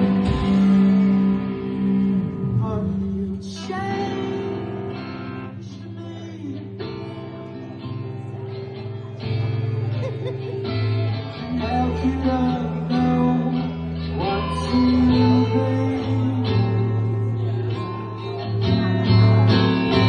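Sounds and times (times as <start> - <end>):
strummed guitar chords: 0.0 - 20.0
sustained bass notes: 0.0 - 20.0.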